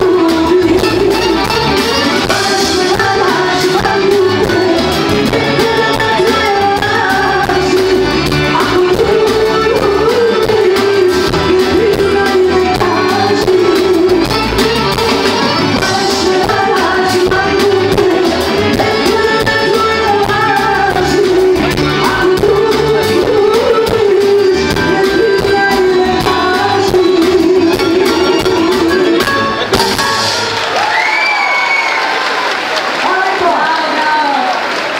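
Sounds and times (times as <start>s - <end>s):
woman singing into microphone: 0.0s - 29.6s
live band music: 0.0s - 34.9s.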